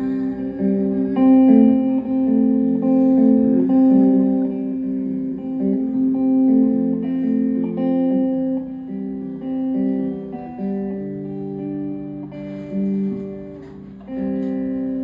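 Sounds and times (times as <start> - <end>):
acoustic guitar folk instrumental: 0.0 - 15.0.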